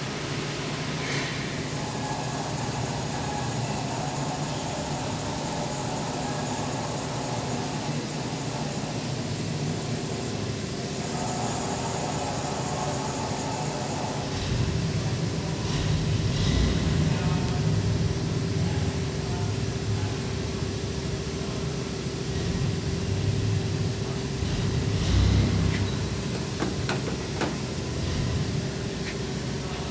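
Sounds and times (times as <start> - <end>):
machine hum with held tones: 0.0 - 29.9.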